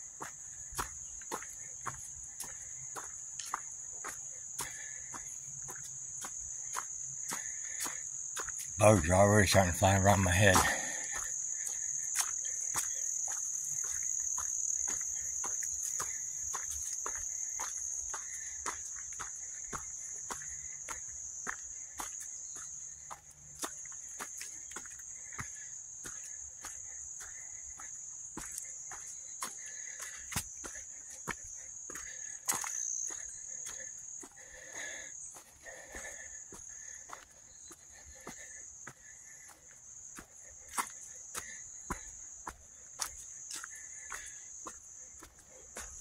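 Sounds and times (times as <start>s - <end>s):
footsteps on dirt trail: 0.0s - 46.0s
insect chorus: 0.0s - 46.0s.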